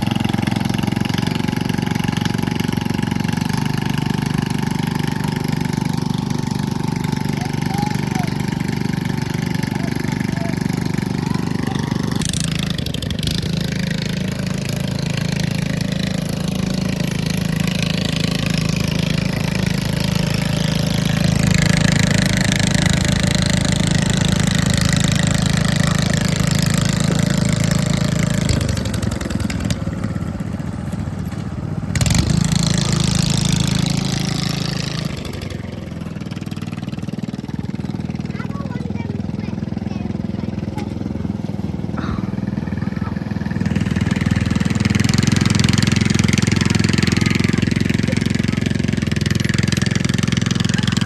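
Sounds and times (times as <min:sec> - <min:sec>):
lawn mower engine running: 0:00.0 - 0:51.0.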